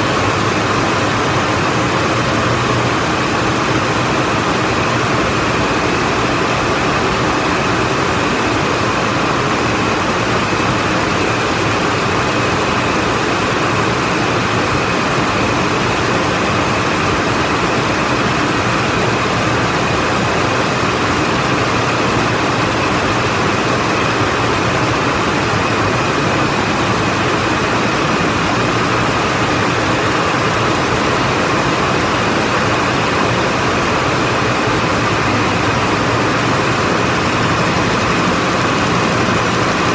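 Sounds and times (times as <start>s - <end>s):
weaving looms running: 0.0s - 39.9s.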